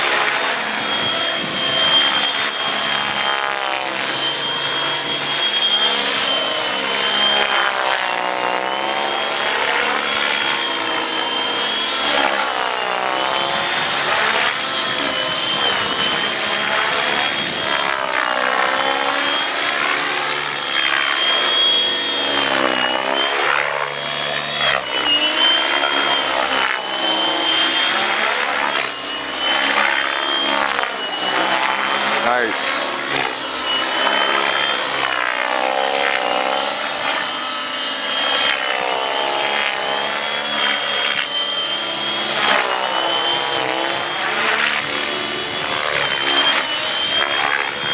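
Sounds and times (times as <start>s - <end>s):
electric motor whine: 0.0s - 47.9s
rotor blades rushing: 0.0s - 47.9s.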